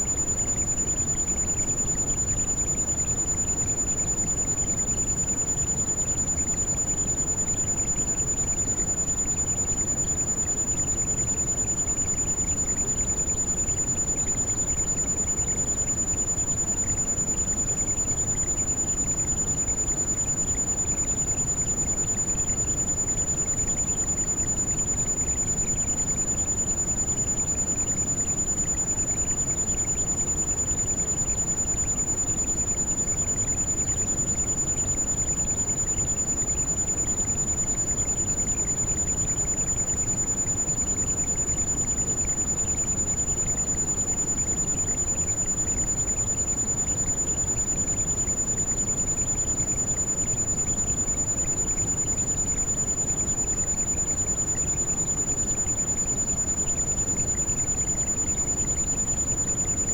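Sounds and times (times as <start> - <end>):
high-pitched ringing tone: 0.0 - 59.9.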